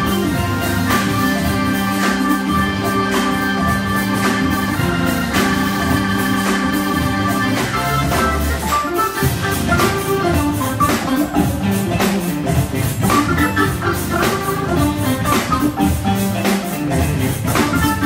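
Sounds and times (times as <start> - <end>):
drum kit keeping time: 0.0 - 18.0
organ chords: 0.0 - 18.0.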